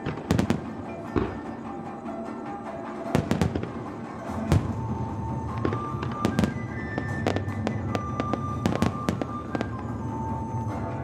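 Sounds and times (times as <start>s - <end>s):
fireworks bangs and crackles: 0.0s - 11.0s
music with held notes: 0.0s - 11.0s.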